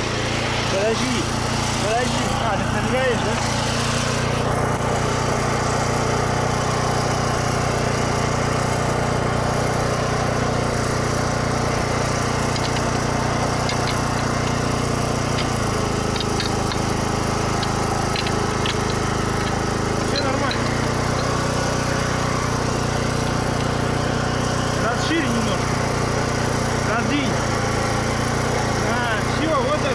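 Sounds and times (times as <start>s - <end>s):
generator engine running: 0.0s - 29.9s.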